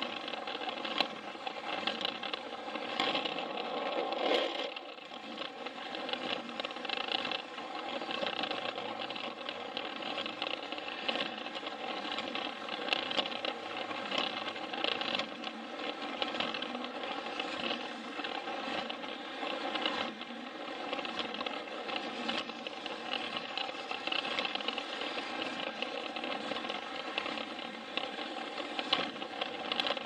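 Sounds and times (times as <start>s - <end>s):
toy train motor whirring: 0.0s - 30.0s.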